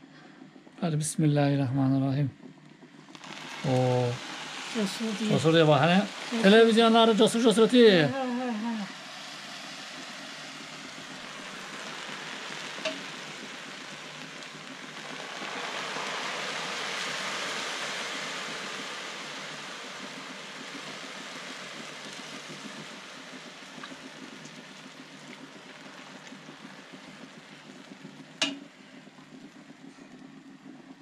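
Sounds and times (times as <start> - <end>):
syrup sizzling on hot pastry: 0.9 - 31.0.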